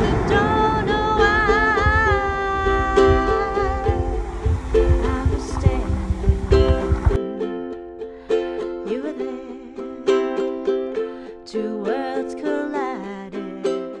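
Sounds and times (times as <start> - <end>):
plucked instrumental music: 0.0 - 14.0.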